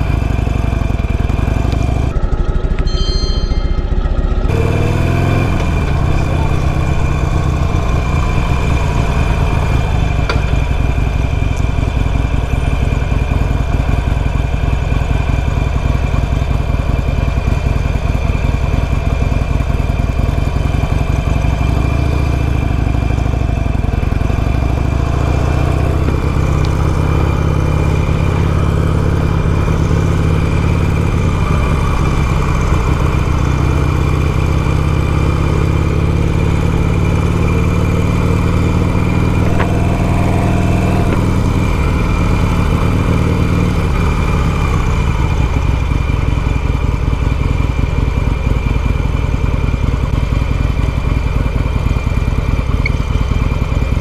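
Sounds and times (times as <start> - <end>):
motorcycle engine revving: 0.0 - 3.0, 3.9 - 54.0.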